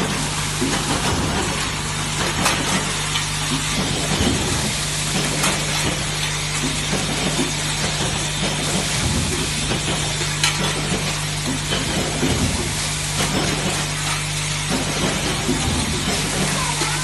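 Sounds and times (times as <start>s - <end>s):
welding machine hum: 0.0s - 17.0s.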